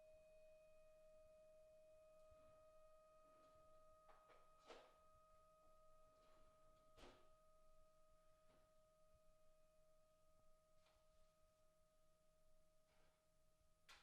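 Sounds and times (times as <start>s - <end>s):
faint steady high tone: 0.0s - 13.3s.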